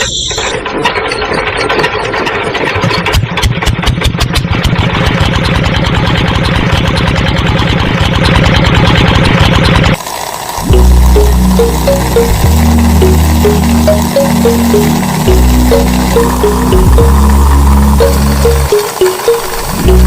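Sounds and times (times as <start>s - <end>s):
small machine chugging: 0.0s - 20.0s.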